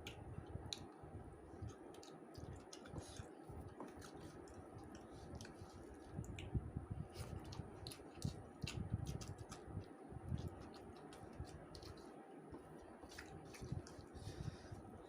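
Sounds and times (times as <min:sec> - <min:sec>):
chewing and wet squishing: 0:00.0 - 0:15.0.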